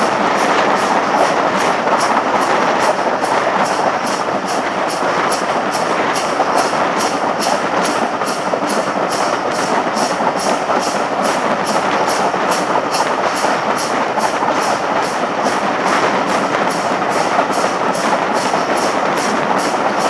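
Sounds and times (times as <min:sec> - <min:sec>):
steam train regular beat: 0:00.0 - 0:20.0
train wheel and wind rush: 0:00.0 - 0:20.0.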